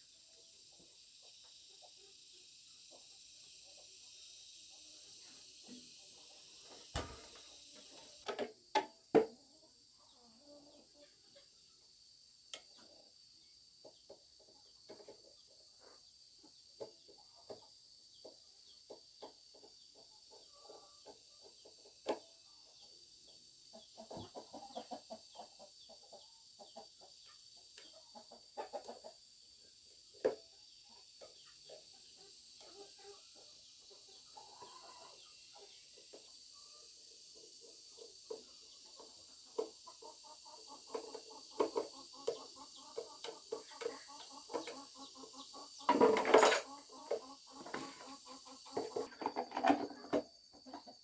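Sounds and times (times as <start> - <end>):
chickens clucking: 0.3 - 12.0, 12.6 - 51.0.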